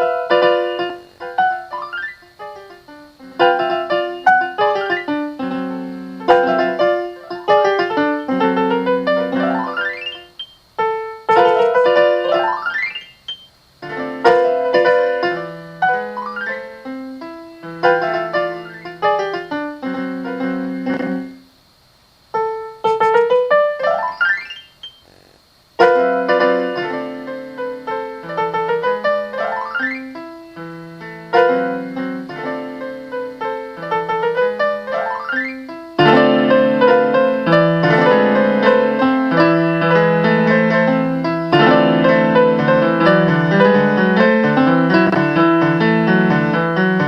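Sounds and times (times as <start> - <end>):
solo piano: 0.0 - 47.0.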